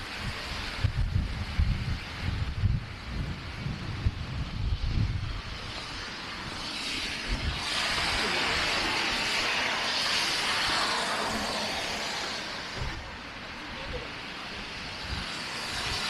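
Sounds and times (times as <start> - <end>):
vehicle tyre hiss passing: 0.0 - 16.0
wind buffeting microphone: 0.0 - 16.0.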